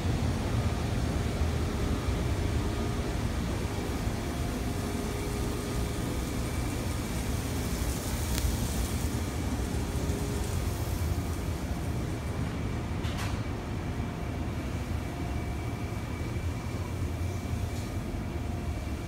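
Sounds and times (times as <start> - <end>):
kitchen exhaust fans humming: 0.0 - 19.0.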